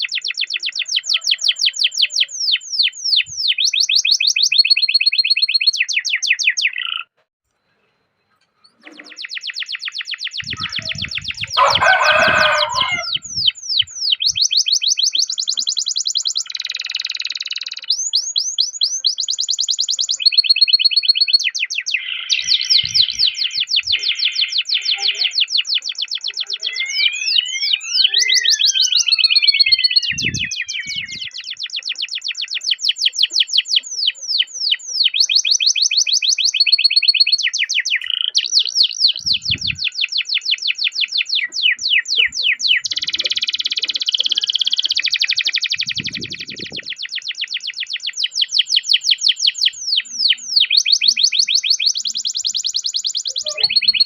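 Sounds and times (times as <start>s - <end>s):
canary singing trills: 0.0s - 7.2s, 8.4s - 54.0s.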